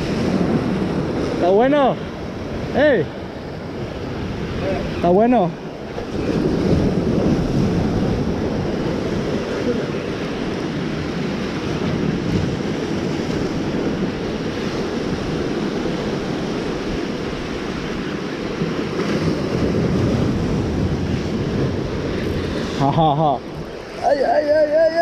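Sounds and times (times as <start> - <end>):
surf breaking over rocks: 0.0 - 25.0
wind buffeting microphone: 0.0 - 25.0.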